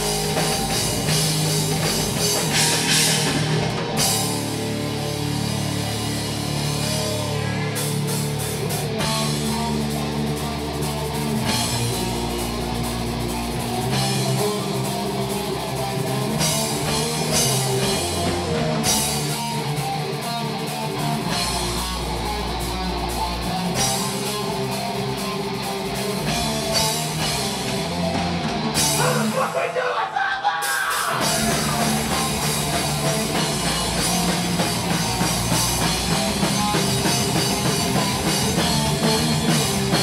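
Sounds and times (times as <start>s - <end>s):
distorted electric guitars: 0.0s - 40.0s
drum kit playing: 0.0s - 40.0s.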